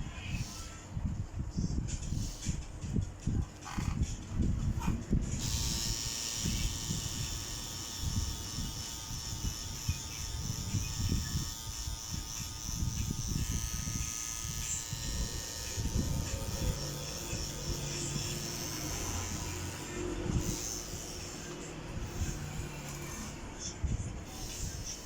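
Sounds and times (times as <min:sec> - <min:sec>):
small electric motor buzzing: 0:00.2 - 0:00.8, 0:02.0 - 0:02.6, 0:03.6 - 0:25.0.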